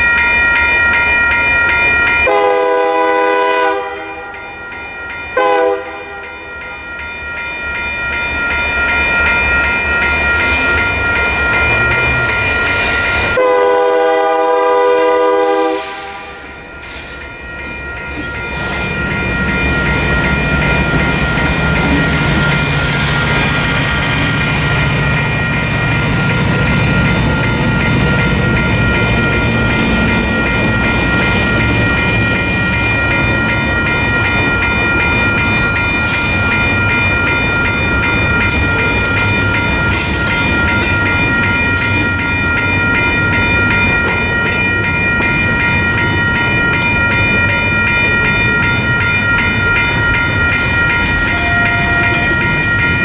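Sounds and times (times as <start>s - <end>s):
train wheels rumbling on rails: 0.0s - 53.0s
high-pitched ringing tone: 4.3s - 53.0s.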